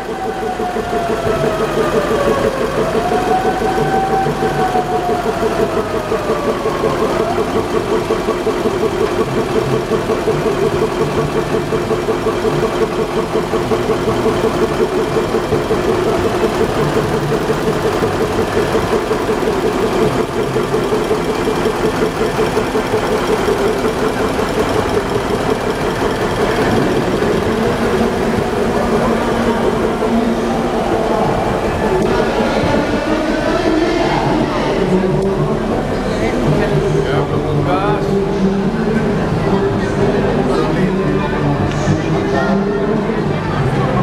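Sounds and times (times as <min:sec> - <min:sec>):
diesel locomotive engine idling: 0:00.0 - 0:44.0.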